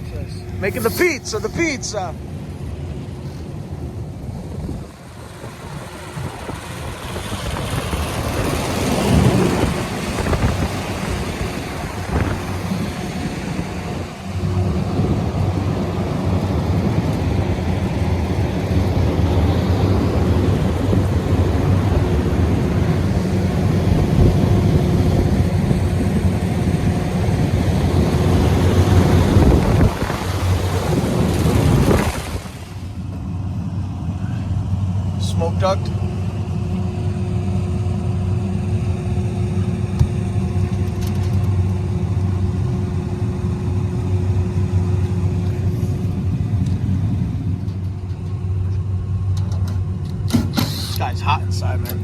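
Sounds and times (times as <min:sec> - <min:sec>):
hvac unit humming: 0:00.0 - 0:52.0.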